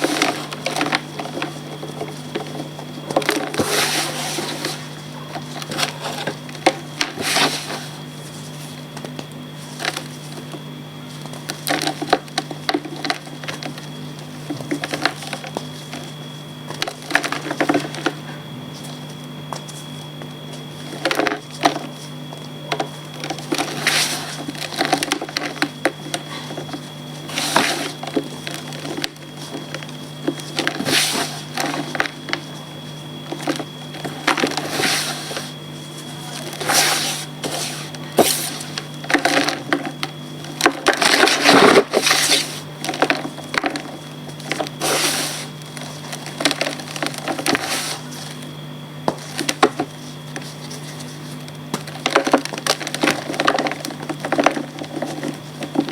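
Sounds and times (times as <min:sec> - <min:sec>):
chalk crunching and cracking: 0:00.0 - 0:48.4
steady low hum: 0:00.0 - 0:55.9.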